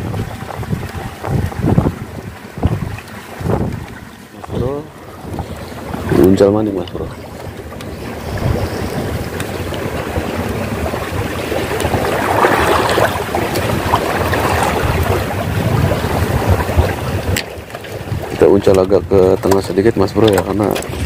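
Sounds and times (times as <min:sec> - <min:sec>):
choppy sea water: 0:00.0 - 0:21.0
wind buffeting microphone: 0:00.0 - 0:21.0.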